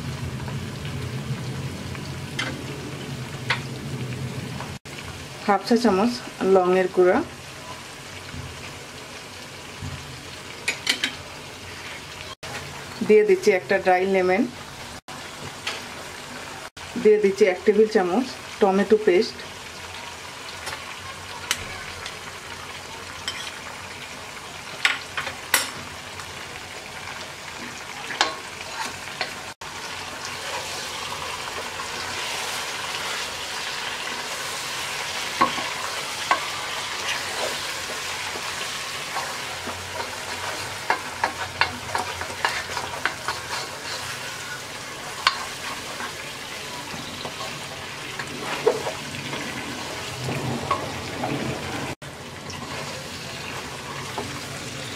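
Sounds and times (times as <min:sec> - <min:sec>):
food sizzling in oil: 0:00.0 - 0:54.9.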